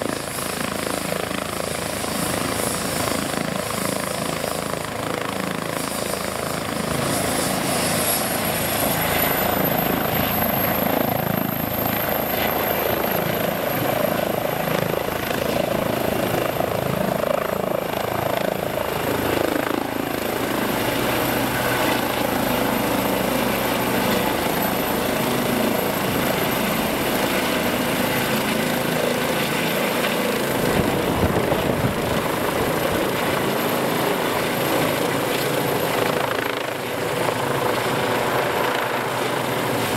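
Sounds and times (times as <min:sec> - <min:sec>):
helicopter rotor noise: 0:00.0 - 0:39.9
high turbine whine: 0:06.6 - 0:39.9.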